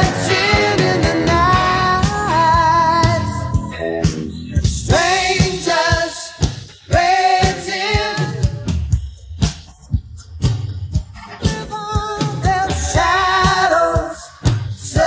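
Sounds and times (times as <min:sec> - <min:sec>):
person singing: 0:00.0 - 0:08.7, 0:11.2 - 0:15.0
drum hits: 0:00.0 - 0:13.7.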